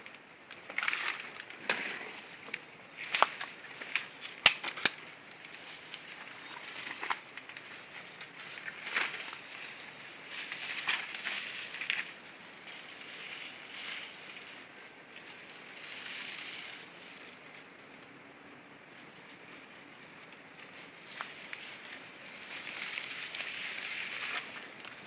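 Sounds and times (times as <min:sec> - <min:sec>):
rustling and brushing: 0:00.7 - 0:04.2, 0:05.2 - 0:17.8, 0:18.9 - 0:25.0.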